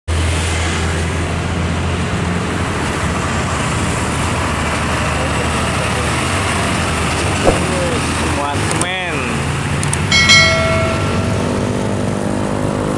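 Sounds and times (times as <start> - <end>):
road traffic noise: 0.1 - 12.9.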